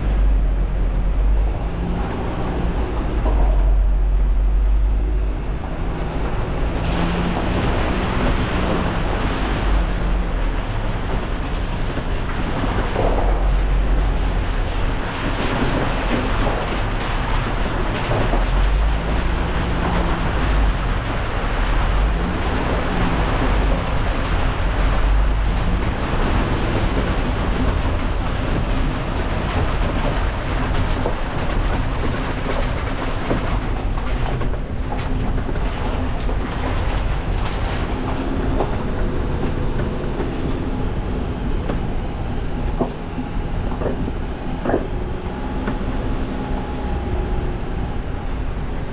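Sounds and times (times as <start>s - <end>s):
engine drone: 0.0s - 48.9s
tyres rumbling on gravel: 0.0s - 48.9s.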